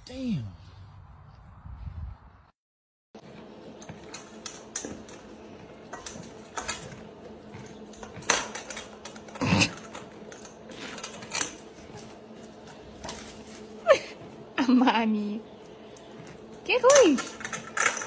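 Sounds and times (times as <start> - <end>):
steady low hum: 3.2 - 18.0.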